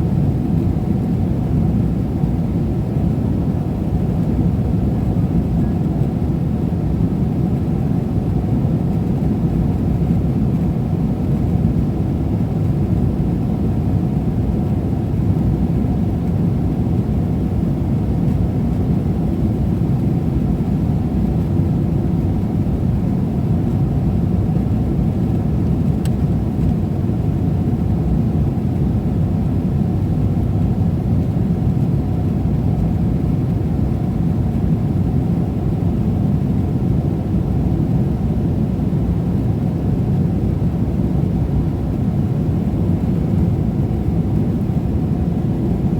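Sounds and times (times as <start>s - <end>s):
airplane cabin engine drone: 0.0s - 45.9s.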